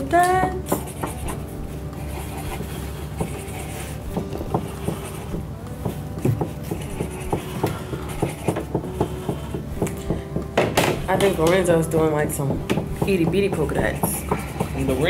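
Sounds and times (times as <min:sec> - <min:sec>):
markers tapping on paper: 0:00.6 - 0:01.4, 0:02.0 - 0:15.0.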